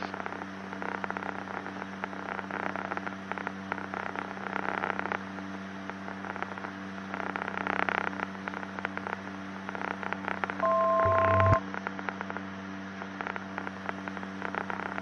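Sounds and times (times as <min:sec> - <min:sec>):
crackling radio static: 0:00.0 - 0:15.0.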